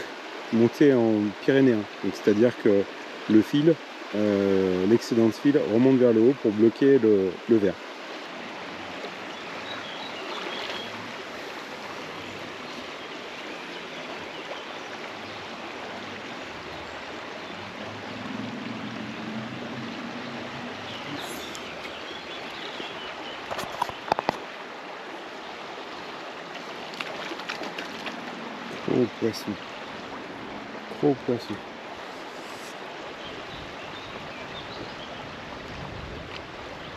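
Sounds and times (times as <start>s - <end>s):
river flowing over stones: 0.0s - 36.9s.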